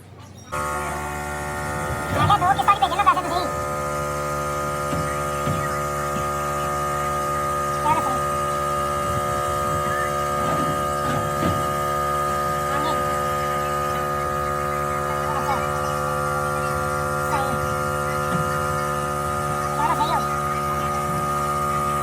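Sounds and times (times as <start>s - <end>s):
steady tonal hum: 0.0s - 22.0s.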